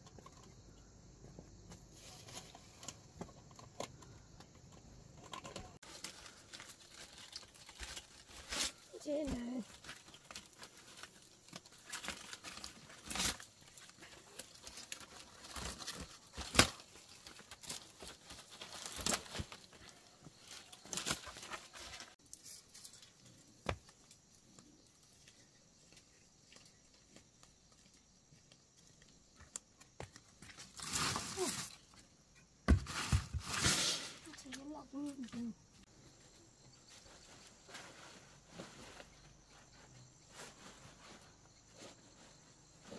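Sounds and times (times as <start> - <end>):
rustling and scraping: 0.0 - 42.9.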